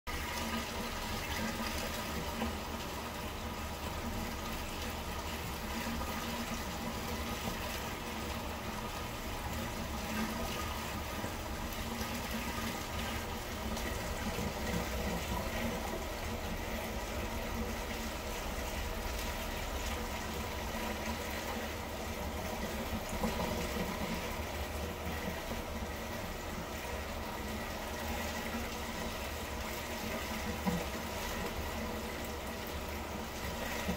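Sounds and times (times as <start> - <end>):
circulating water trickling: 0.1 - 33.9
faint constant hum: 0.1 - 33.9.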